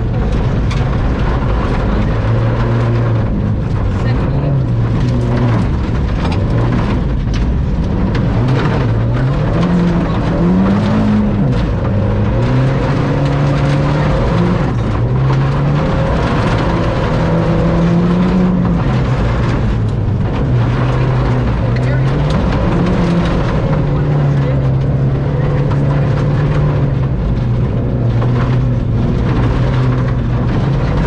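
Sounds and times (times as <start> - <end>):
rally car engine revving: 0.0 - 31.0
tyre and road noise: 0.0 - 31.0.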